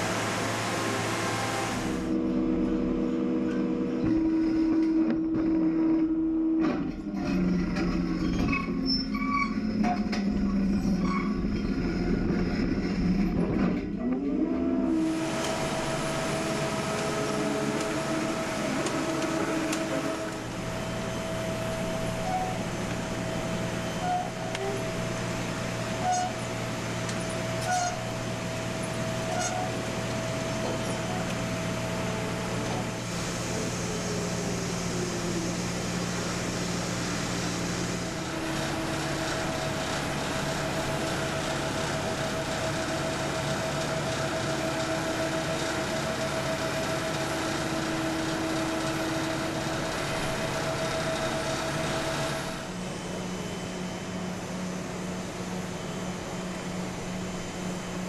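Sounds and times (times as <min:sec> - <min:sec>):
machine drone: 0:00.0 - 0:58.0.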